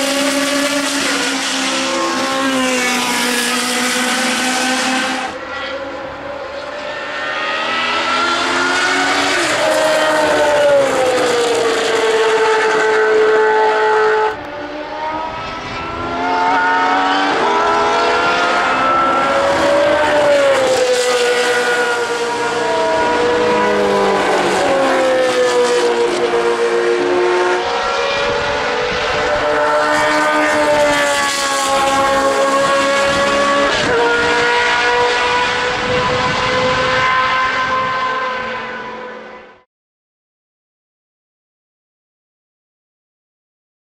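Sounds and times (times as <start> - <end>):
racing car engine revving: 0.0 - 39.6.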